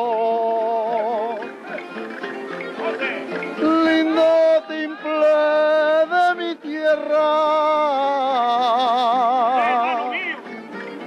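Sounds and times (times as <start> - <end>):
person singing long notes: 0.0 - 1.4, 3.5 - 11.0.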